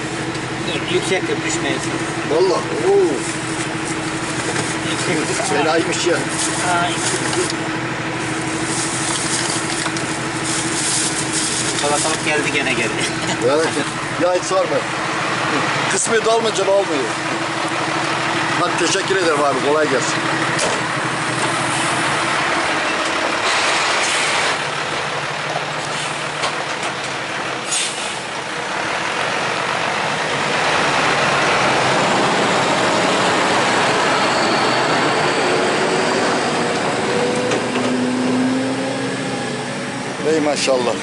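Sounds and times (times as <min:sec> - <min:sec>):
diesel truck engine driving past: 0:00.0 - 0:41.0.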